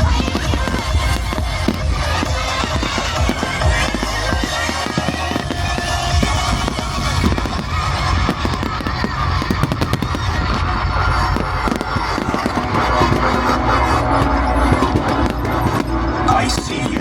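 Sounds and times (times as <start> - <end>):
fireworks bursting and crackling: 0.0 - 17.0
loud show music: 0.0 - 17.0.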